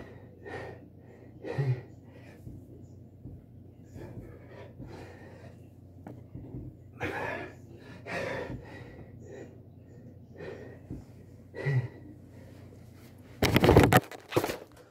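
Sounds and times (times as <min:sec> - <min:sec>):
man breathing hard: 0:00.0 - 0:05.7, 0:06.4 - 0:12.8.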